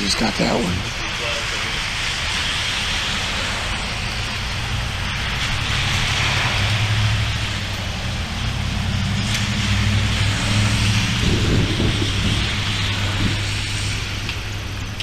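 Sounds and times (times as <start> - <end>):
heavy rain falling: 0.0 - 15.0
low thunder rumble: 0.8 - 15.0.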